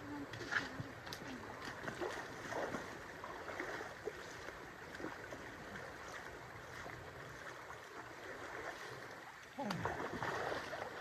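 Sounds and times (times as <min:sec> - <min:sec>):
faint splashes from wading: 0:00.0 - 0:11.0.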